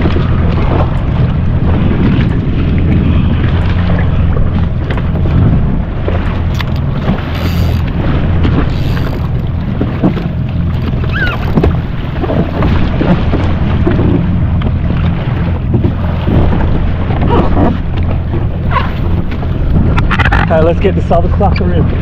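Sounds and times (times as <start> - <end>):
jet ski engine running: 0.0 - 22.0
water splashing along hull: 0.0 - 22.0
wind buffeting microphone: 0.0 - 22.0.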